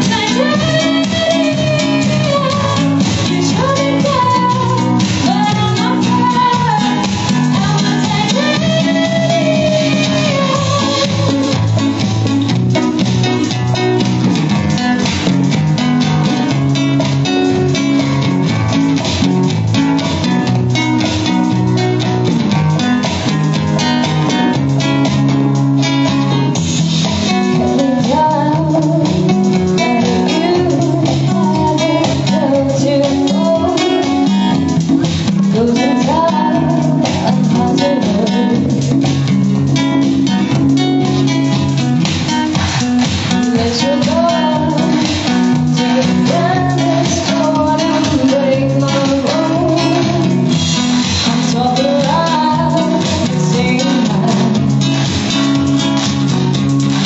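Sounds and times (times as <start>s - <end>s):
bass line: 0.0s - 57.0s
guitars playing chords: 0.0s - 57.0s
sliding guitar melody: 0.0s - 57.0s.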